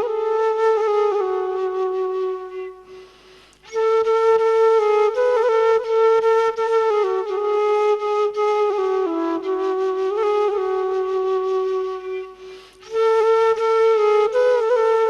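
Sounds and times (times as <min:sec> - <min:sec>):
slow solo wind instrument melody: 0:00.0 - 0:15.0.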